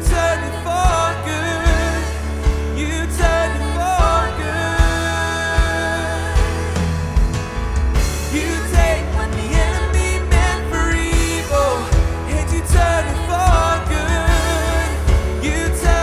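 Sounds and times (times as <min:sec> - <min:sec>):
bass: 0:00.0 - 0:16.0
synth and piano: 0:00.0 - 0:16.0
drum beat: 0:00.1 - 0:16.0.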